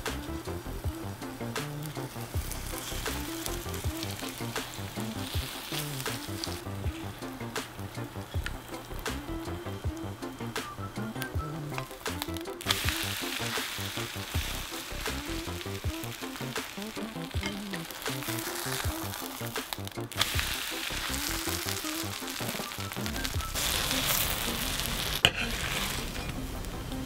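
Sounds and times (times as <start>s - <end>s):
background music: 0.0s - 27.0s
batter sizzling in frying pan: 0.0s - 27.0s.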